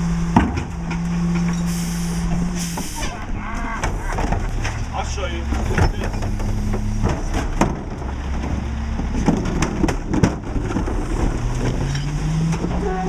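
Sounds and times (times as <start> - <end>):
rumbling crunch of compactor: 0.0 - 1.6, 2.2 - 12.9
garbage truck diesel engine: 0.0 - 13.0
metal clanks and knocks: 0.3 - 1.7, 2.3 - 13.0.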